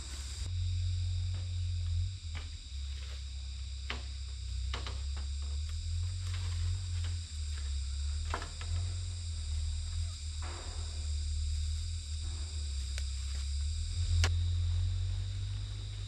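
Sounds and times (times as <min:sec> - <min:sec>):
insect chorus: 0:00.0 - 0:16.0
low rumble: 0:00.0 - 0:16.0.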